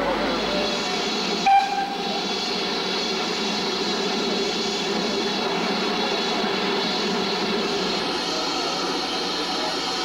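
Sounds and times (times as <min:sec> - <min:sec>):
steam hissing from locomotive: 0:00.0 - 0:10.0.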